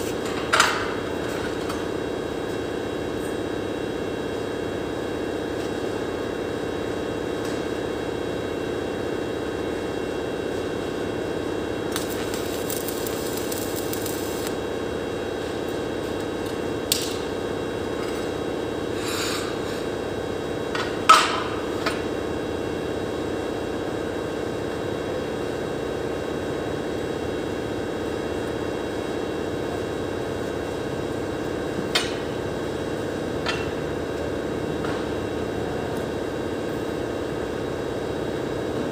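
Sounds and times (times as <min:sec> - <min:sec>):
steady machine hum: 0:00.0 - 0:38.9.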